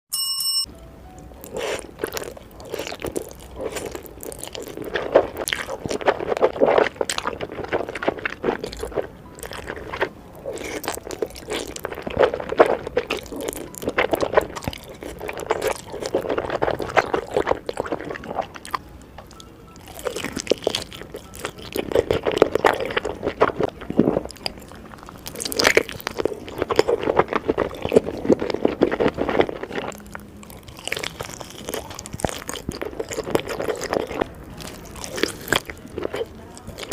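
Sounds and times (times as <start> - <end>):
wet chewing and crunching: 1.3 - 36.9.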